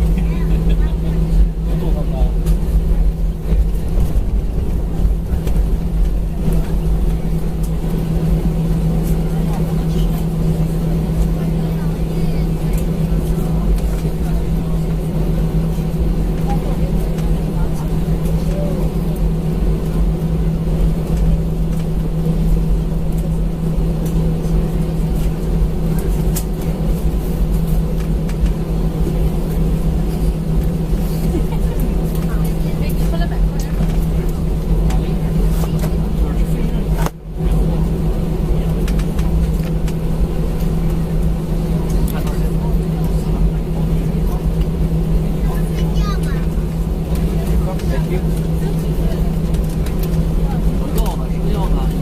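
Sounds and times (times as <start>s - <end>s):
jet engine cabin rumble: 0.0s - 52.0s.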